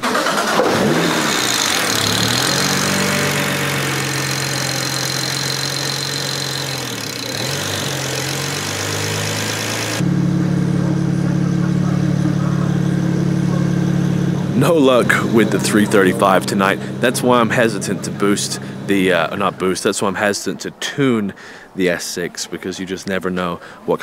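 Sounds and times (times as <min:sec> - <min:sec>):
loud steady engine drone: 0:00.0 - 0:19.7
car engine running: 0:00.0 - 0:19.9.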